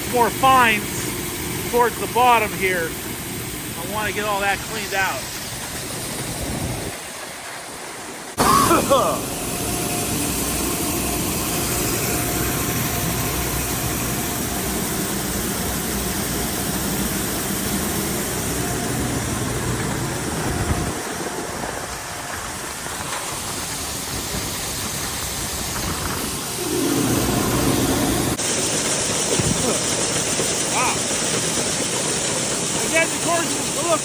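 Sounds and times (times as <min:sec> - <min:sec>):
grain auger rumbling: 0:00.0 - 0:34.0.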